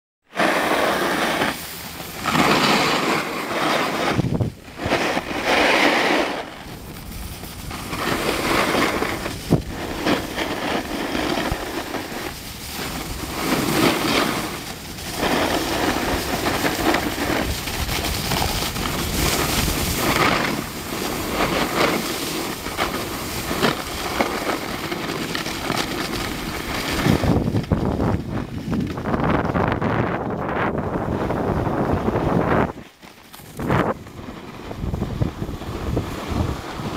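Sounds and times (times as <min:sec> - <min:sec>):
snowboard sliding over snow: 0:00.3 - 0:36.9
wind rushing over microphone: 0:00.3 - 0:36.9.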